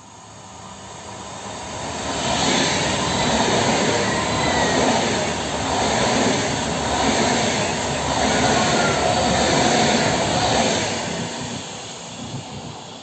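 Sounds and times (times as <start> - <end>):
train passing at high speed: 0.0 - 13.0
wheels rushing on rail: 0.0 - 13.0.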